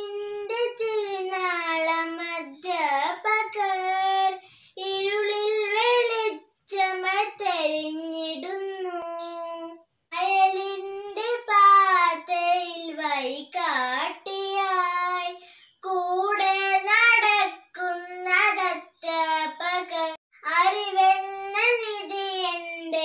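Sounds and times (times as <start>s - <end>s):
girl singing unaccompanied: 0.0s - 23.0s.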